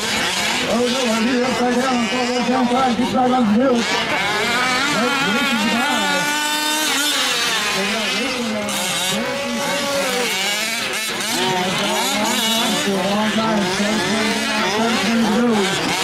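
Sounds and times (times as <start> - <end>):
small gas engines revving: 0.0 - 16.0.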